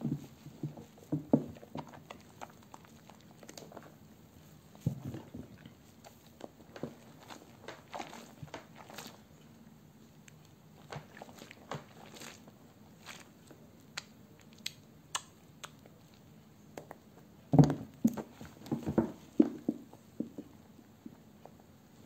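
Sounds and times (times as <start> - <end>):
wet soap squishing in hands: 0.2 - 20.4.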